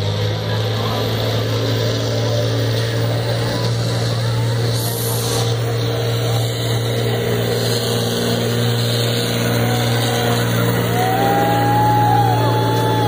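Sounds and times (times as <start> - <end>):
engine idling drone: 0.0 - 13.0.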